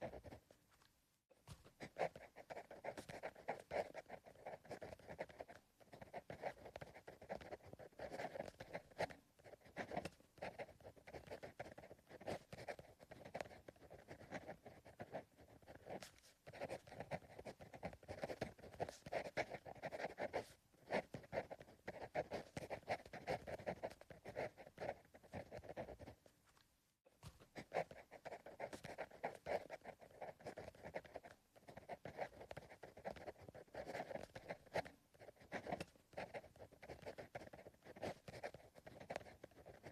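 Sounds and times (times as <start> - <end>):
pencil scratching on paper: 0.0 - 0.6, 1.4 - 26.3, 27.2 - 39.9.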